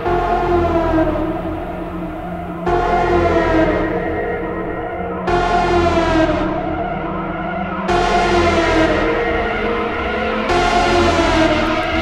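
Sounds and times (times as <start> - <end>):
sustained wavering music chord: 0.0 - 12.0.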